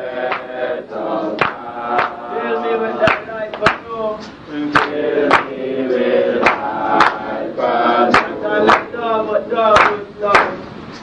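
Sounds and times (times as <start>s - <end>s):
group chanting in unison: 0.0s - 10.6s.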